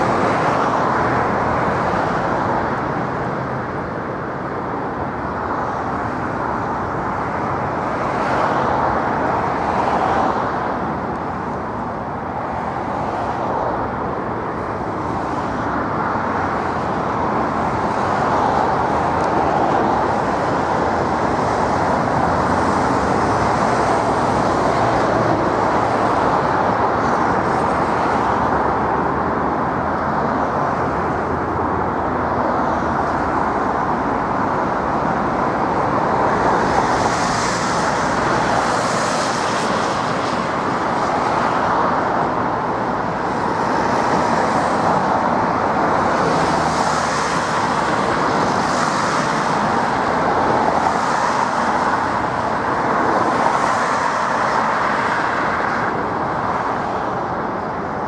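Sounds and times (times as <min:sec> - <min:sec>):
distant jet engines roaring: 0:00.0 - 0:58.0.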